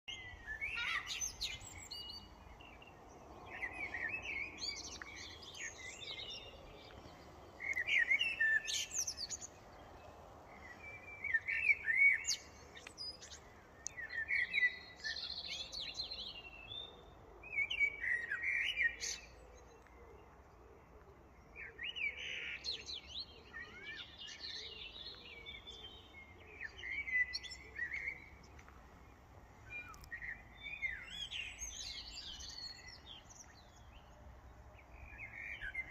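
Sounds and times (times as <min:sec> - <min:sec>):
songbirds singing: 0:00.1 - 0:35.9.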